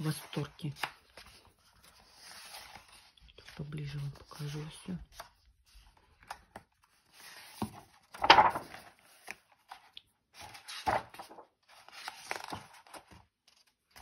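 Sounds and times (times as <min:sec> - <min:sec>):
book pages turning: 0:00.0 - 0:14.0.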